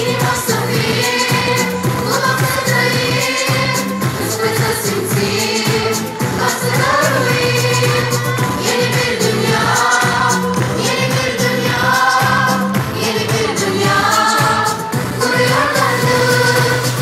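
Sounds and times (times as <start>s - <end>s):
choir singing: 0.0s - 17.0s
person singing: 0.0s - 17.0s
steady percussive beat: 0.0s - 17.0s.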